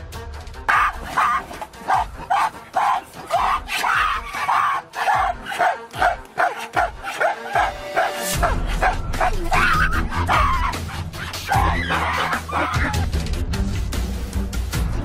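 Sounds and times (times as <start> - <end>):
gorillas barking: 0.7 - 13.2.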